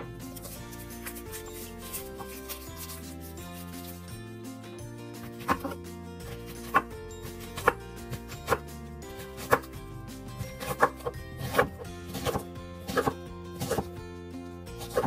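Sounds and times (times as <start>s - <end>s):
knife slicing onion on wooden board: 0.0s - 3.8s, 5.2s - 9.8s, 10.4s - 14.0s, 14.8s - 15.0s.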